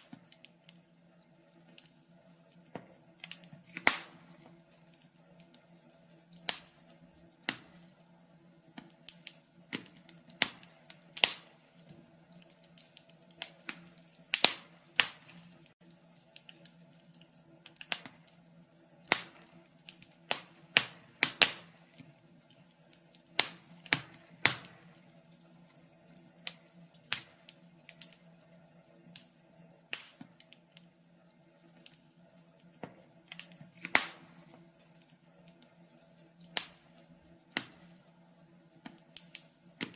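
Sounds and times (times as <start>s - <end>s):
logs crackling and popping in fire: 0.0s - 39.9s.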